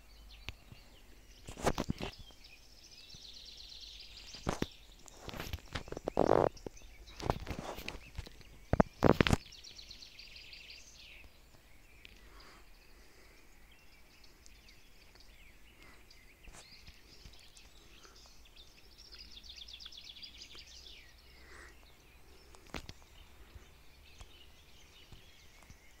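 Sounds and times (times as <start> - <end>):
bird trilled song: 0.0 - 26.0
faint bird calls: 0.0 - 26.0.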